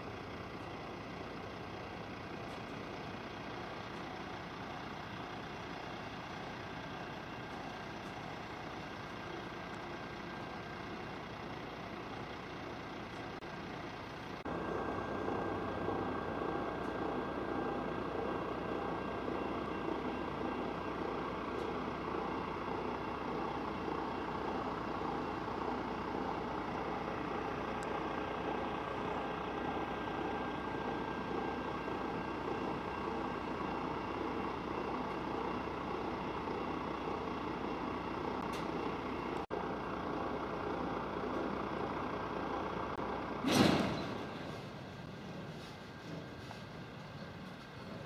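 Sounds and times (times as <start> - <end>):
diesel locomotive engine drone: 0.0 - 48.0.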